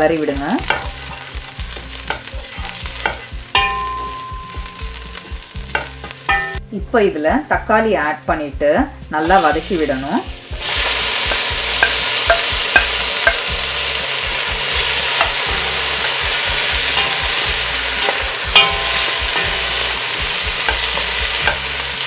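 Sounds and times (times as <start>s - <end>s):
vegetables sizzling in a pan: 0.0s - 6.6s, 9.2s - 22.0s.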